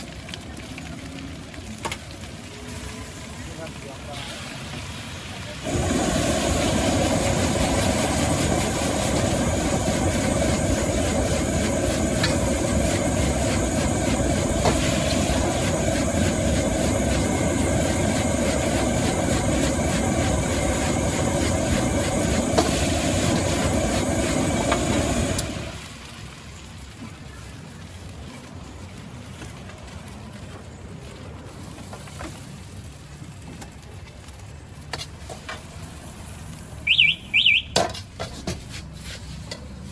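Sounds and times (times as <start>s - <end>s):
gas burner roaring: 0.0s - 39.9s.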